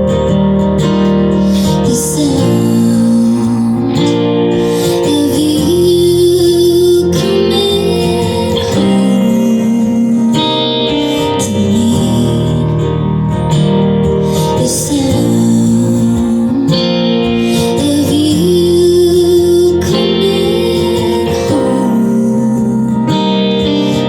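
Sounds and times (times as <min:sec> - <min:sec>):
electric guitars with bent notes: 0:00.0 - 0:24.0.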